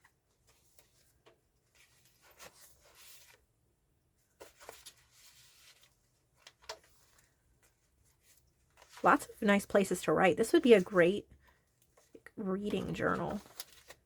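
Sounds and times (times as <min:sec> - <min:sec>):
paper pages rustling: 0:00.0 - 0:03.5, 0:04.2 - 0:14.0.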